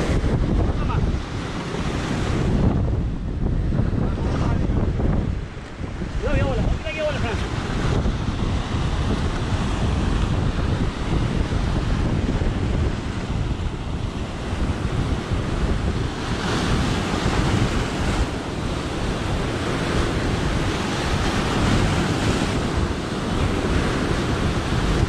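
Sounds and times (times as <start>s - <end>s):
surf breaking over rocks: 0.0s - 25.0s
wind buffeting microphone: 0.0s - 25.0s.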